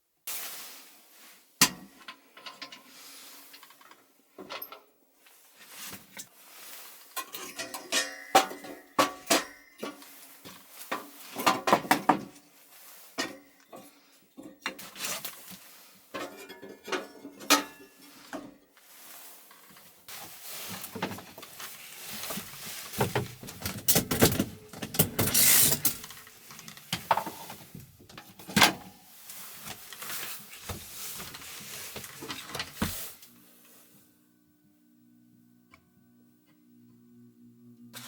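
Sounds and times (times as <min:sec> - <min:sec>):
objects being handled: 0:01.9 - 0:33.3.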